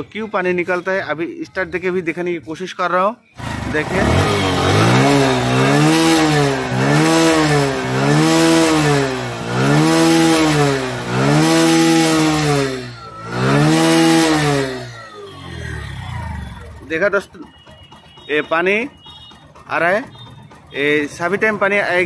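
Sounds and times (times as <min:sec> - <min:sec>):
motorcycle engine revving: 0:03.4 - 0:22.0.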